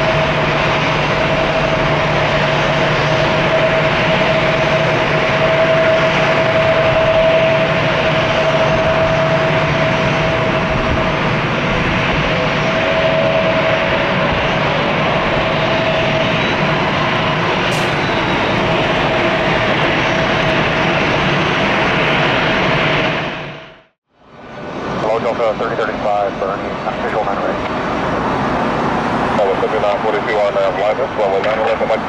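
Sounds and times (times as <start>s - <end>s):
jet engines at takeoff: 0.0s - 32.0s.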